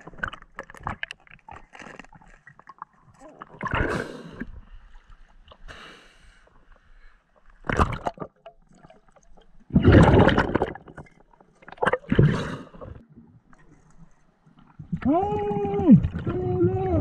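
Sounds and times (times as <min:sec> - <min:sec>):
water splashing and gurgling: 0:00.0 - 0:05.7, 0:07.6 - 0:17.0.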